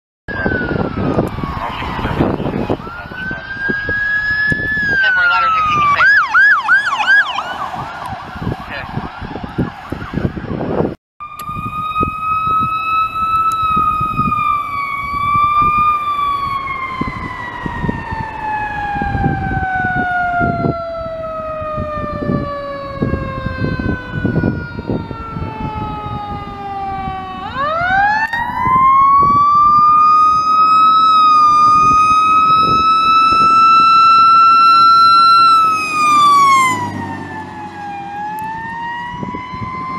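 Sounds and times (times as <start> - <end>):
fire engine siren wailing: 0.3 - 39.9
siren yelping: 0.3 - 39.9.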